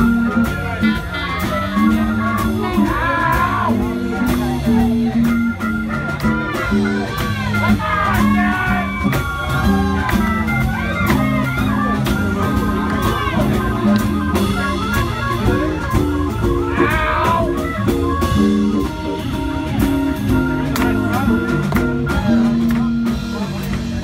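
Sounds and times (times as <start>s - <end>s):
bass line: 0.0s - 24.0s
blues guitar melody: 0.0s - 24.0s
drums: 0.0s - 24.0s.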